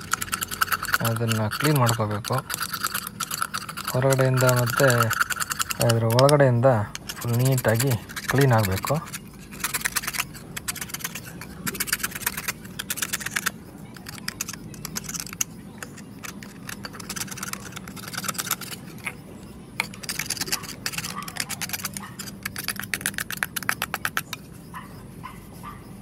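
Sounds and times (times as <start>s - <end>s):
knife scraping coconut shell: 0.0s - 25.8s.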